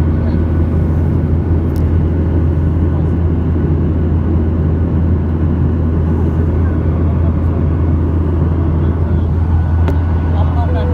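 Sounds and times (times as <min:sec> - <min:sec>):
airliner cabin rumble: 0:00.0 - 0:10.9.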